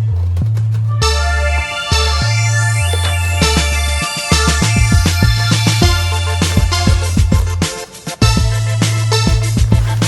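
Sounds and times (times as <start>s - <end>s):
electronic music with heavy bass: 0.9s - 10.0s.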